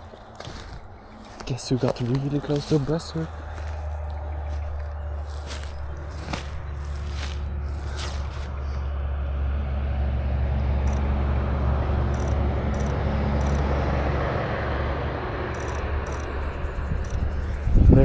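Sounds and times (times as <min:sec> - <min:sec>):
road noise: 0:00.0 - 0:17.8.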